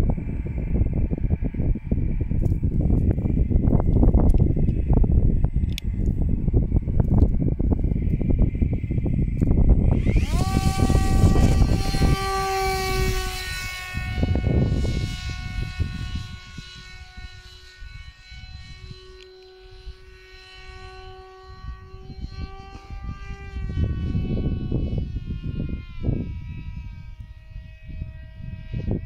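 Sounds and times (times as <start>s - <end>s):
electric motor and propeller whine: 0.0s - 29.0s
wind rumble on microphone: 0.0s - 29.0s.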